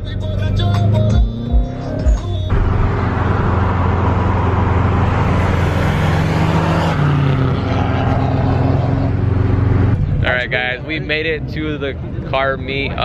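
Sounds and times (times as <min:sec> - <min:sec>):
car engine droning: 0:00.0 - 0:13.0
road and wind noise: 0:00.0 - 0:13.0.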